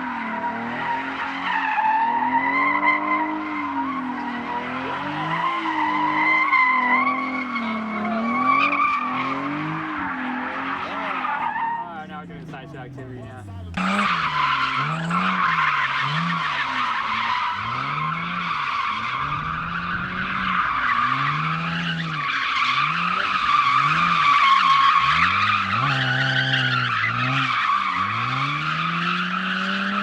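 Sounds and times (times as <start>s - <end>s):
car engine revving: 0.0s - 30.0s
tires squealing: 0.0s - 30.0s.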